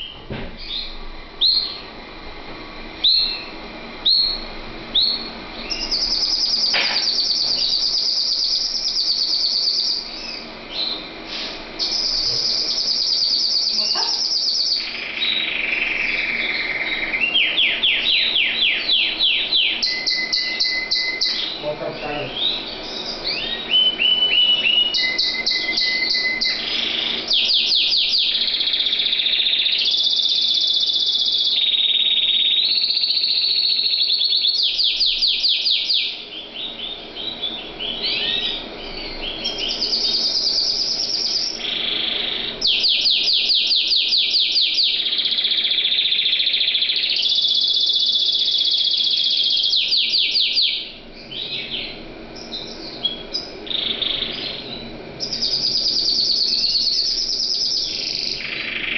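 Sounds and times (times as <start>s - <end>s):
canary singing: 0.0s - 2.2s, 2.8s - 58.9s.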